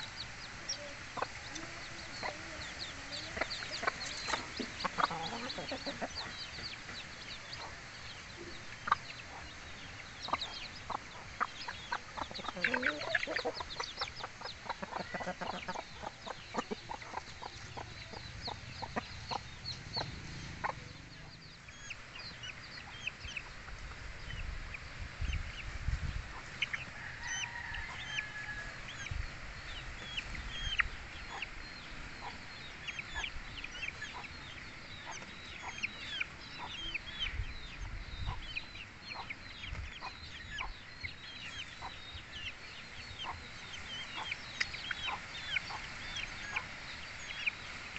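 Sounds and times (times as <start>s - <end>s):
chickens clucking: 0.0s - 47.9s
chicks peeping: 0.0s - 47.9s.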